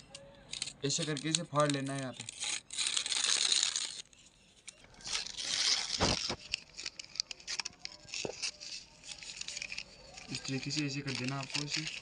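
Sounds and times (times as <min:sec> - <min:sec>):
paper crinkling: 0:00.0 - 0:12.0
paper tearing: 0:00.5 - 0:04.2, 0:04.9 - 0:12.0.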